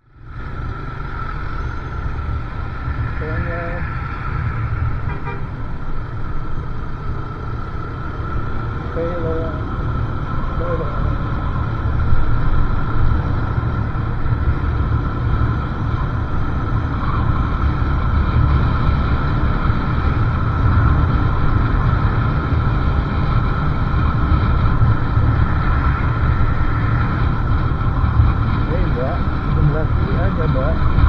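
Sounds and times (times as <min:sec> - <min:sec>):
motorcycle engine: 0:00.0 - 0:31.0
wind rumbling on microphone: 0:00.0 - 0:31.0.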